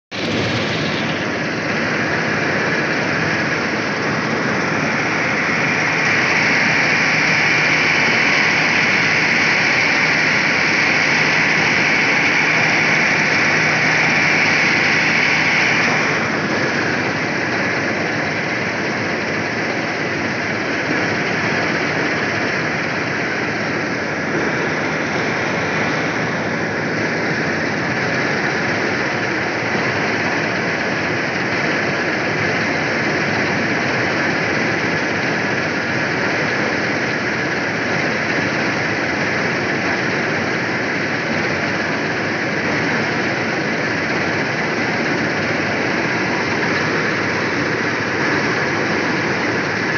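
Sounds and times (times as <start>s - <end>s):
combine harvester running: 0.1s - 49.9s.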